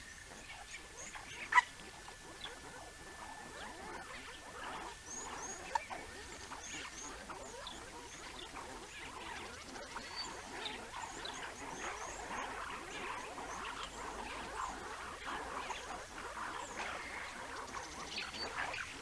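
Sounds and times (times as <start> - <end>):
mongoose chirps and twitters: 0.2 - 19.0.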